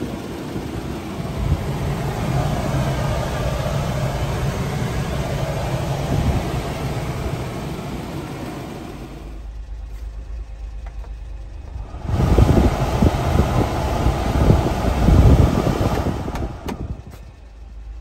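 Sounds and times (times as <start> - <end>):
heater blower fan rushing air: 0.0 - 18.0
low steady hum: 0.0 - 18.0.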